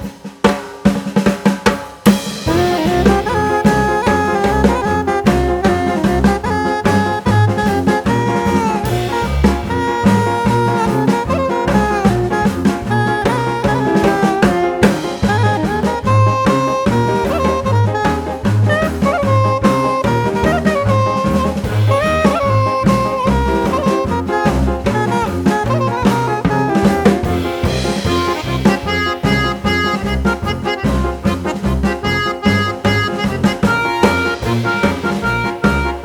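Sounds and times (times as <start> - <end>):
upbeat jazzy instrumental music: 0.0 - 36.0.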